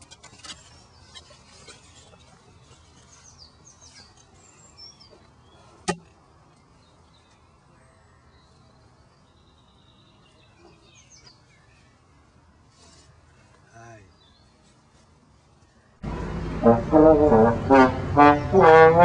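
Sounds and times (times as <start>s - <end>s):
faint low outdoor hum: 0.0s - 19.0s
songbirds chirping: 0.0s - 19.0s.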